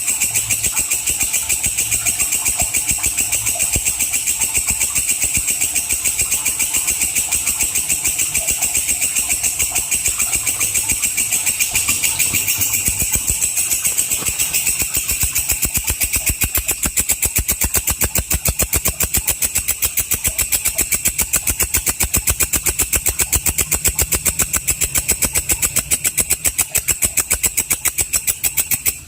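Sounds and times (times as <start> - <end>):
insect high-pitched pulsing call: 0.0 - 29.0.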